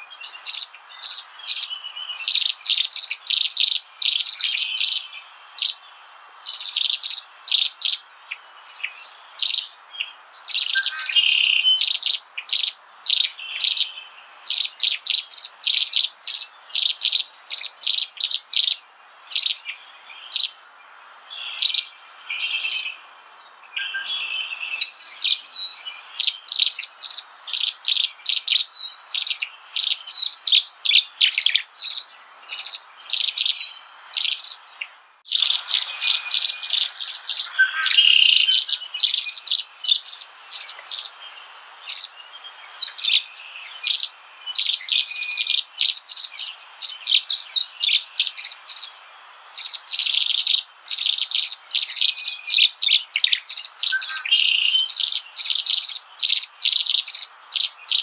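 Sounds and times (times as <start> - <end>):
faint steady hiss: 0.0 - 58.0
small birds chirping: 0.0 - 58.0.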